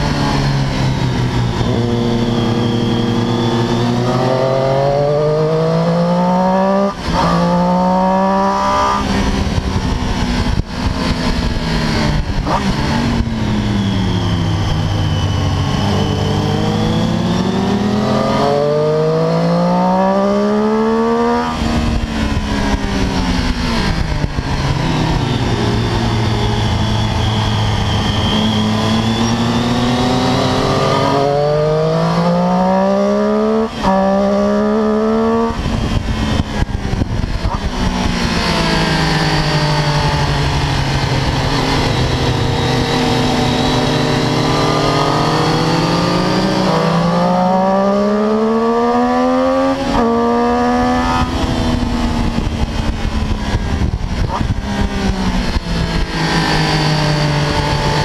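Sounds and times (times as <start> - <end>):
motorcycle engine revving: 0.0 - 58.0
wind noise: 0.0 - 58.0.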